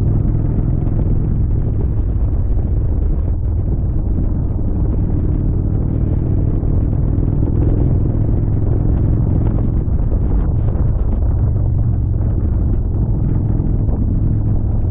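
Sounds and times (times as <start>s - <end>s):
motorcycle engine rumbling: 0.0s - 14.9s.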